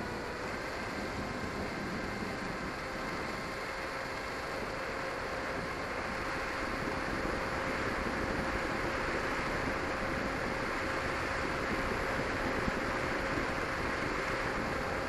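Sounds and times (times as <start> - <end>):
electric motor whine: 0.0 - 15.0
wind rushing across microphone: 0.0 - 15.0.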